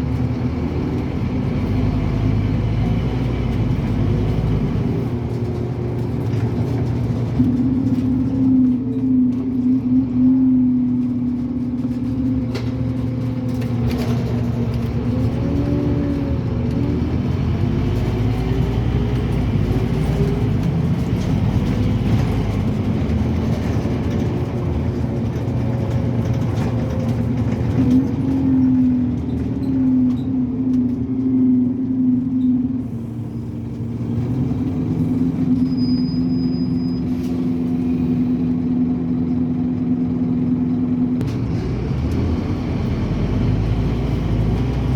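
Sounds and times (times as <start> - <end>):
bus diesel engine: 0.0 - 44.9
road noise rumble: 0.0 - 44.9.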